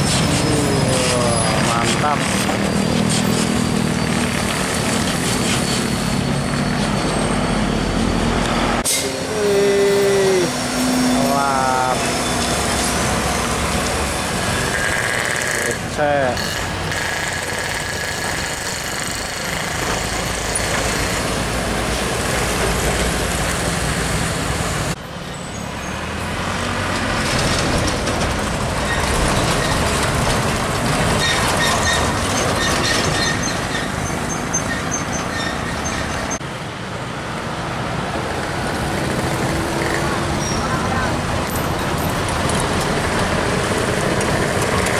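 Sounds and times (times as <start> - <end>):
diesel trucks driving past: 0.0 - 18.6, 19.2 - 44.9.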